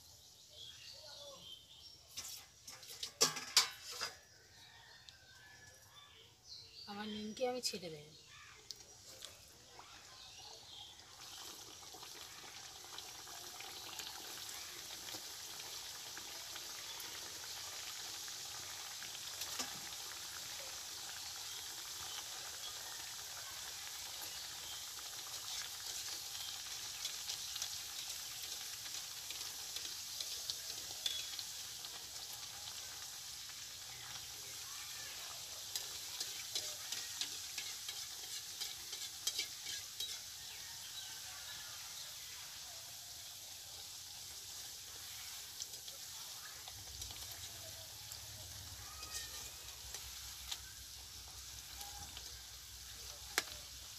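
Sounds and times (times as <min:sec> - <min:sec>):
dough sizzling in hot oil: 0:00.0 - 0:05.8, 0:06.8 - 0:53.9
oil crackles and pops: 0:02.1 - 0:04.1, 0:08.6 - 0:41.1, 0:41.8 - 0:53.9.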